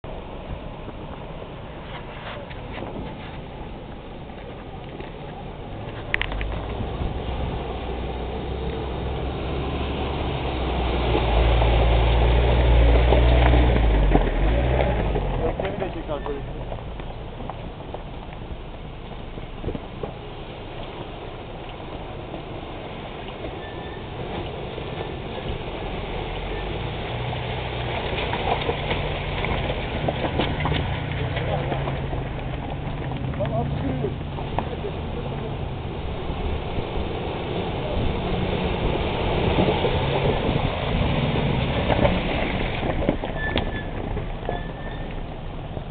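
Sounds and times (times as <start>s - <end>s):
car engine at low revs: 0.1s - 45.9s
water splashing around wheels: 0.1s - 45.9s.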